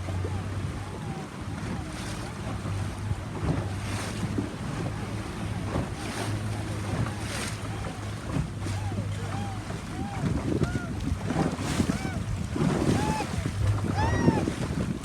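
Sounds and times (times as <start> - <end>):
boat motor running: 0.0 - 15.0
water splashing against hull: 0.0 - 15.0
wind on microphone: 0.0 - 15.0.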